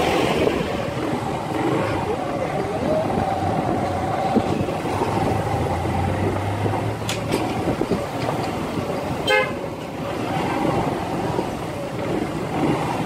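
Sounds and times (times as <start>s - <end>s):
motorcycle engine hum: 0.0s - 13.0s
wind and road noise: 0.0s - 13.0s.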